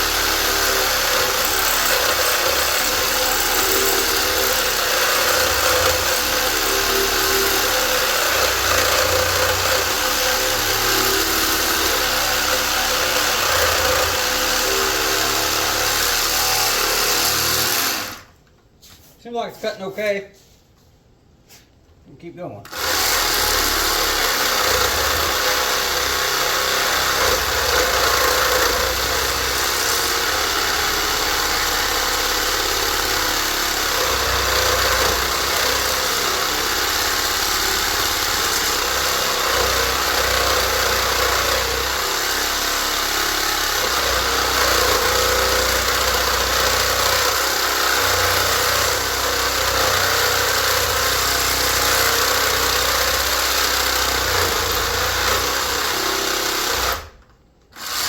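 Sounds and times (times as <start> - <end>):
reciprocating saw cutting metal: 0.0 - 18.3, 22.7 - 57.2.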